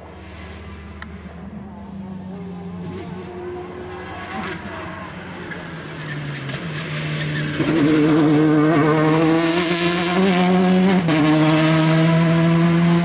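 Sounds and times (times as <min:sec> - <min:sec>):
rally car engine at high revs: 0:02.3 - 0:13.0.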